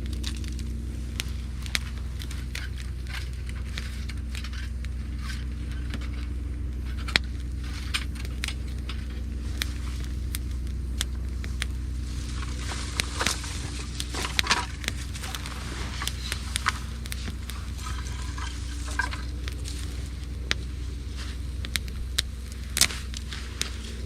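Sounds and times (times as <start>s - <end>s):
campfire crackling: 0.0s - 24.0s
sharp pops of fire: 0.0s - 24.0s
steady low hum: 0.0s - 24.0s.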